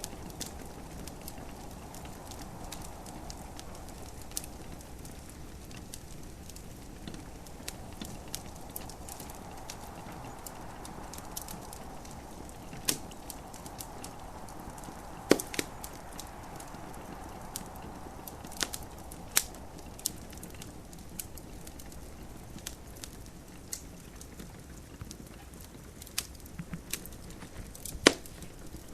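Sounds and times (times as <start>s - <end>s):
gentle rain hiss: 0.0s - 28.9s
wood fire crackling and popping: 0.0s - 28.9s.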